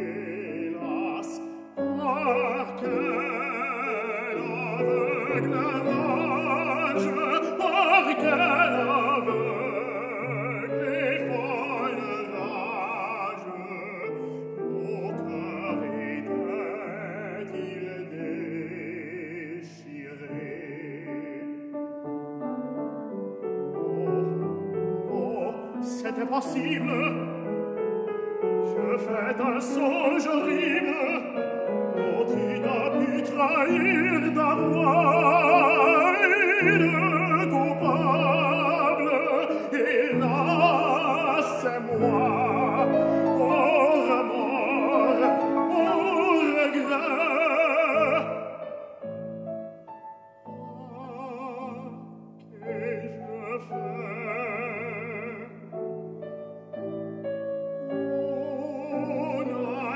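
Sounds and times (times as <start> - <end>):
baritone singing opera: 0.0 - 21.8, 23.4 - 49.2, 50.5 - 55.9, 57.7 - 59.9
grand piano: 0.0 - 59.9.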